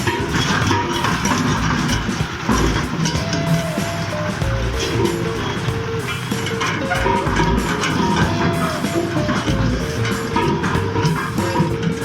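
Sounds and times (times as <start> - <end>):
plucked guitar notes: 0.0 - 12.0
steady beat: 0.0 - 12.0.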